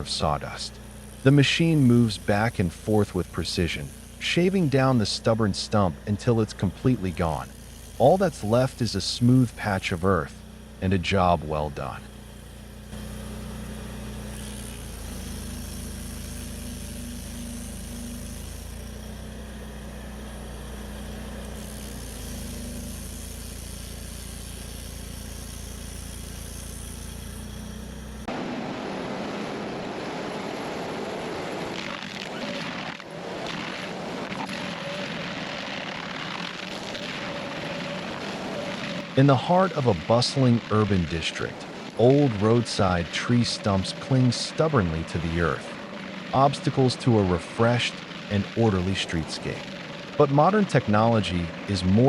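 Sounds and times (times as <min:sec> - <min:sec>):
heavy machine engine running: 0:00.0 - 0:52.0
rough machine sound: 0:00.0 - 0:52.0.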